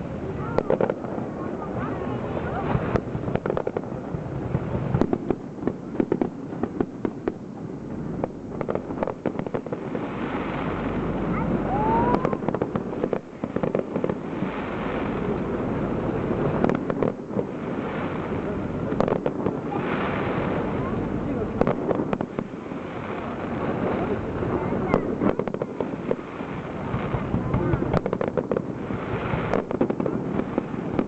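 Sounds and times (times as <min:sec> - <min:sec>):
fireworks bursting: 0:00.0 - 0:31.0
fireworks crackling: 0:00.0 - 0:31.0
low booms: 0:00.0 - 0:31.0.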